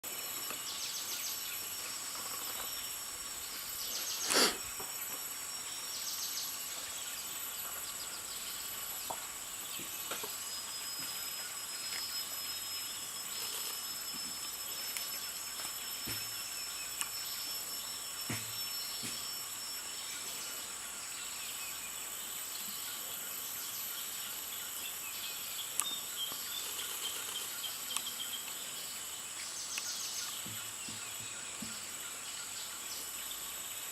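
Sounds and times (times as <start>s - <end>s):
high-pitched insect drone: 0.1s - 33.9s.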